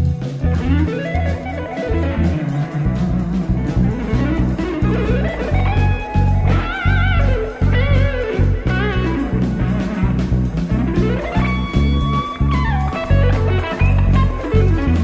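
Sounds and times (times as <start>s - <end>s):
bass: 0.0s - 15.0s
drums: 0.0s - 15.0s
electric guitar lead line: 0.0s - 15.0s.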